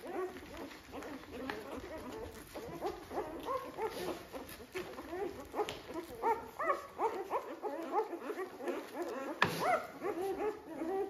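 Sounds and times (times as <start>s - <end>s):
newborn puppies squeaking and whimpering: 0.0s - 11.0s.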